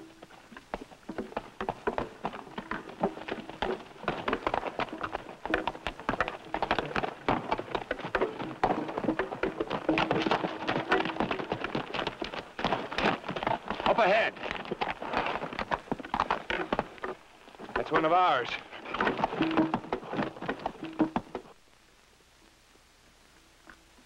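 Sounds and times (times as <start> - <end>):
horses galloping on rocky ground: 0.0 - 21.9.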